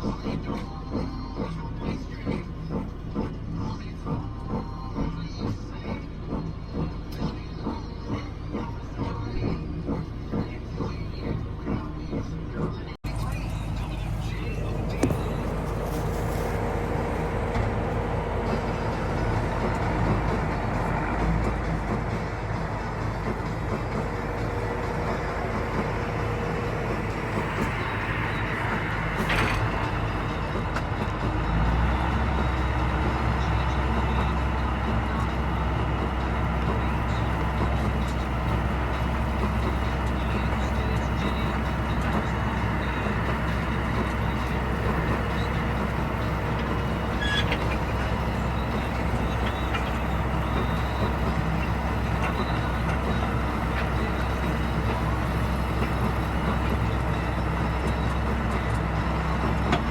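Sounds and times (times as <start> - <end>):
tractor engine droning: 0.0 - 59.9.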